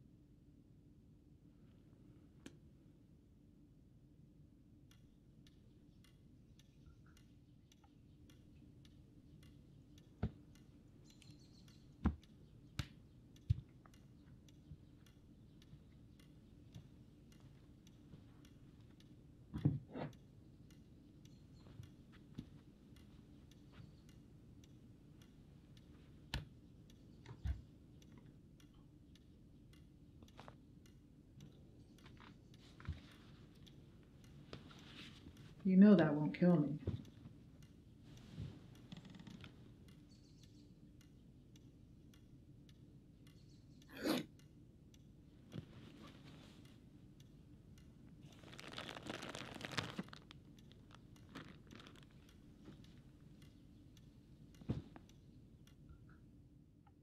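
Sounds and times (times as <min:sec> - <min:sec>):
faint ticks: 0:04.8 - 0:57.0.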